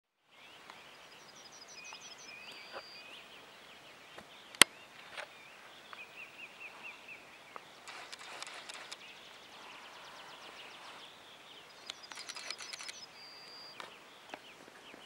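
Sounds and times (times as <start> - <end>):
songbirds singing: 0.1 - 15.0.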